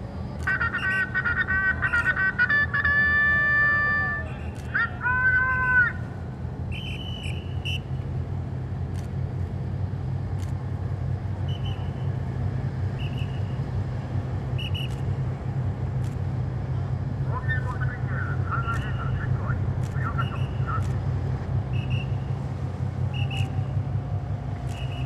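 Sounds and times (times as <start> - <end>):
ship engines humming: 0.0 - 25.0.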